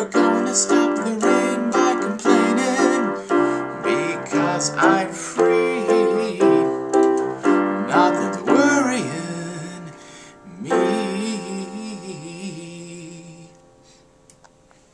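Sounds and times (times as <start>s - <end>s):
man singing with vibrato: 0.0s - 13.8s
electronic keyboard piano chords: 0.0s - 14.7s.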